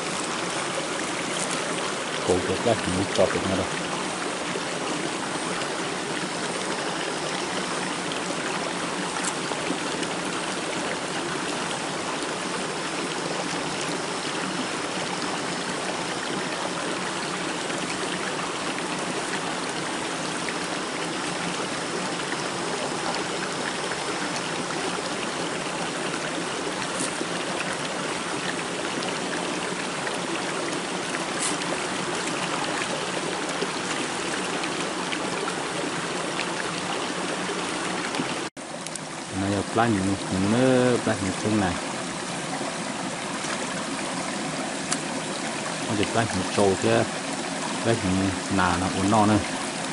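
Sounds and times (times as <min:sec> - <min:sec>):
stream flowing over rocks: 0:00.0 - 0:49.9.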